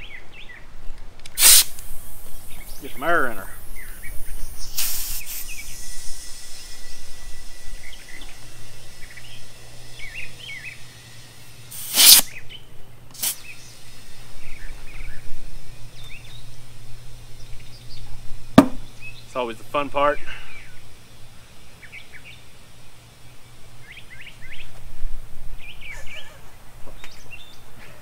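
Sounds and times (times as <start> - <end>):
birds chirping: 0.0 - 1.1, 1.9 - 28.0
low steady hum: 0.0 - 28.0
compressed air hissing: 1.3 - 26.6.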